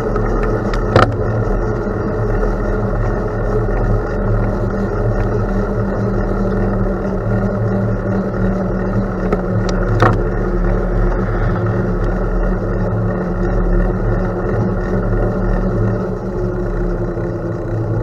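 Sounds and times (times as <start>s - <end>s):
bicycle tyres rolling on gravel: 0.0s - 18.0s.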